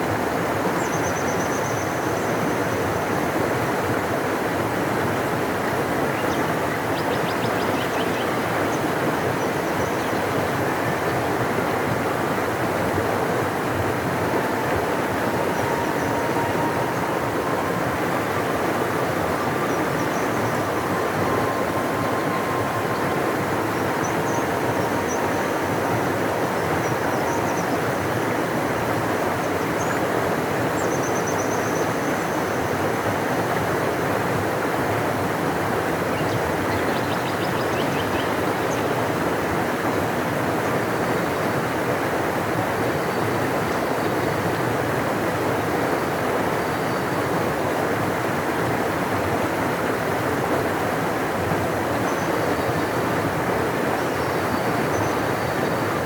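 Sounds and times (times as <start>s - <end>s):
large river rushing: 0.0s - 56.0s.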